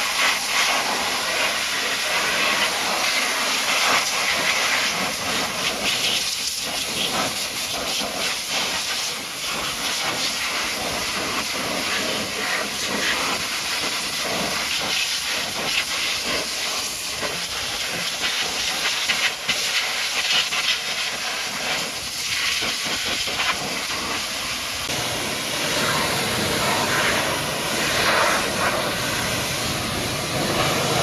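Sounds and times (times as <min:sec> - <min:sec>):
pressure washer spraying: 0:00.0 - 0:31.0.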